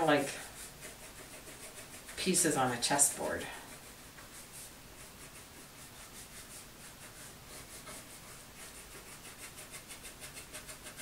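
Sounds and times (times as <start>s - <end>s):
crayon scribbling on paper: 0.0s - 11.0s.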